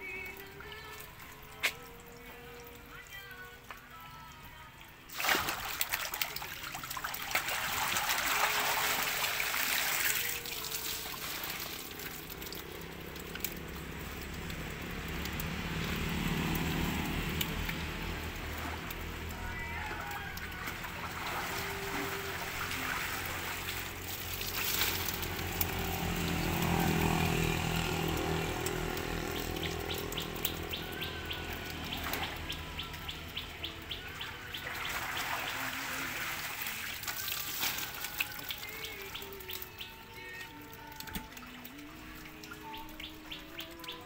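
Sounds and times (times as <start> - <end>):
water trickling and splashing: 0.0 - 44.0.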